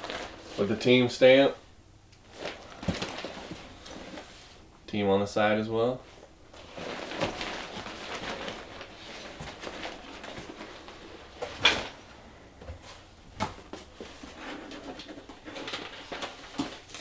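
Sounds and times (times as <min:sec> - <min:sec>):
rustling and handling items: 0:00.0 - 0:17.0.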